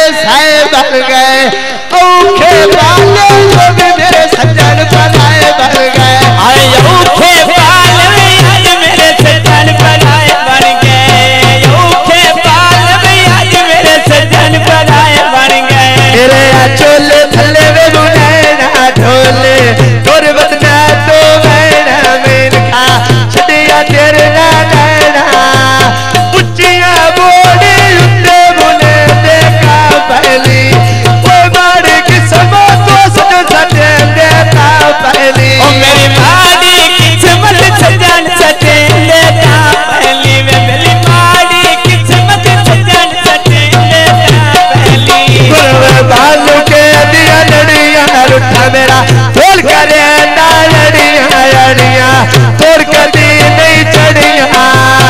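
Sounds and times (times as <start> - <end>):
hand drum rhythm: 2.2 - 55.0.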